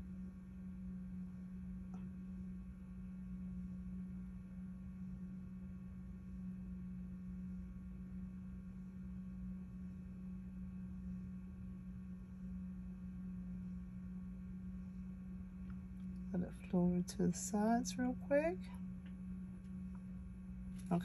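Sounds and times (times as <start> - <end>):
faint steady tones: 0.0 - 21.0
low electrical hum: 0.0 - 21.0.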